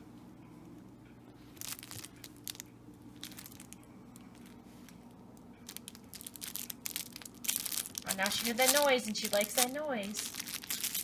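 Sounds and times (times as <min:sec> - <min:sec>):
puppy chewing a crinkly toy: 0:01.5 - 0:11.0.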